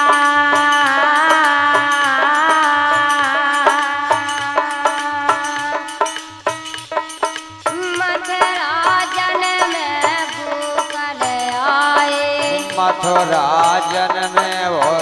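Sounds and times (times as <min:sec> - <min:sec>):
hand drum beat: 0:00.0 - 0:15.0
harmonium melody: 0:00.0 - 0:15.0
clicking percussion: 0:00.6 - 0:15.0.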